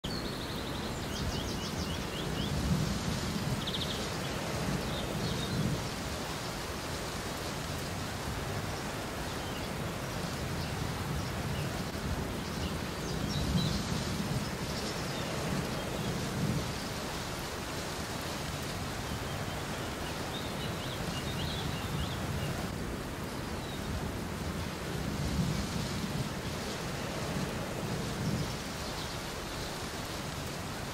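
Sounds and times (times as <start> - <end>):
artificial rain pattering: 0.7 - 30.9.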